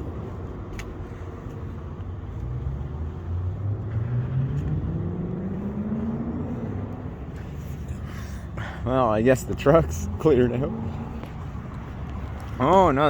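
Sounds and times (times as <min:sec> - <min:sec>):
truck engine accelerating: 0:02.3 - 0:13.0.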